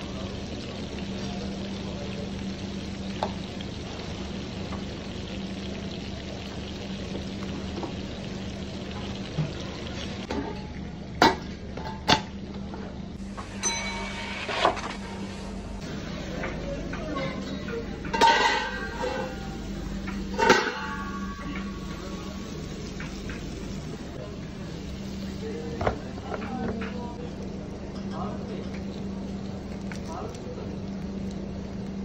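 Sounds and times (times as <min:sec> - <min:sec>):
kitchen background hiss: 0:00.0 - 0:10.4, 0:13.2 - 0:32.0.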